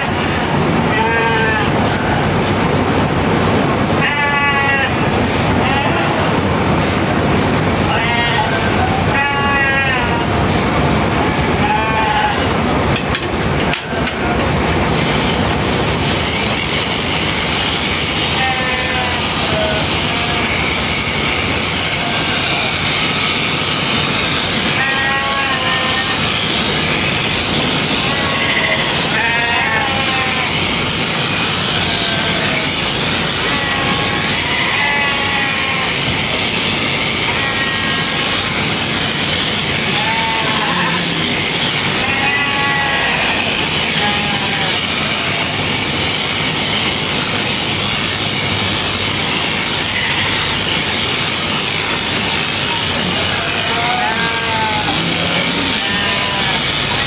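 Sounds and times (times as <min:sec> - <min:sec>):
sheep bleating: 0:00.2 - 0:02.0, 0:04.0 - 0:05.0, 0:07.9 - 0:10.3, 0:11.4 - 0:12.6, 0:16.2 - 0:48.1, 0:48.8 - 0:57.0.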